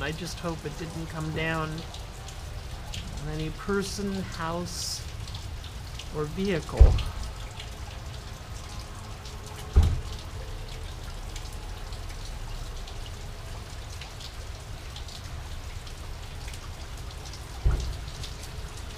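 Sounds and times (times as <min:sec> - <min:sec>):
heavy rain on concrete: 0:00.0 - 0:18.9.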